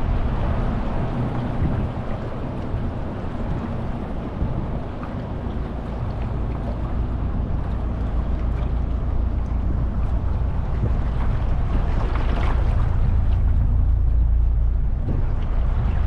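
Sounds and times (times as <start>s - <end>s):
boat motor rumbling: 0.0s - 16.0s
water rushing: 0.0s - 16.0s
wind buffeting microphone: 0.0s - 16.0s.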